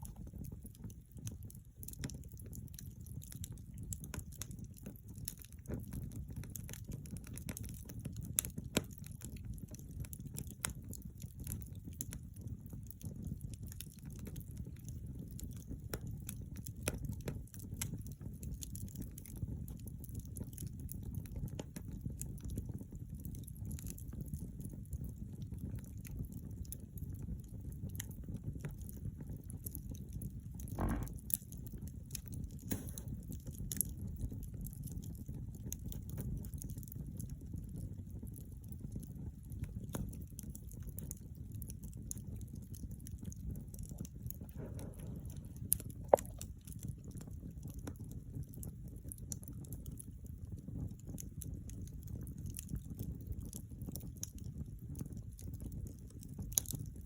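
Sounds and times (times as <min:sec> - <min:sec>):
low rumble of flames: 0:00.0 - 0:57.0
wood crackling and popping: 0:00.0 - 0:57.0.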